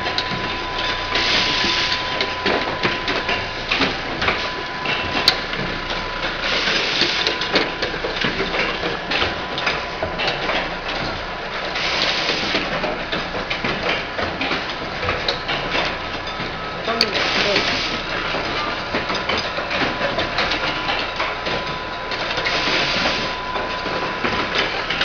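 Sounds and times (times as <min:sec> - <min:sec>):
machine clattering clicks and knocks: 0:00.0 - 0:25.0.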